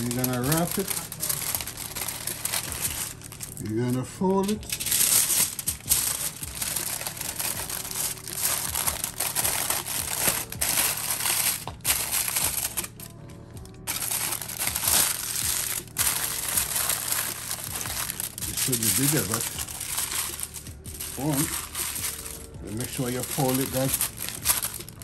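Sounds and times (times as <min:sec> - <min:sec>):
aluminium foil crinkling: 0:00.0 - 0:03.8, 0:04.4 - 0:25.0.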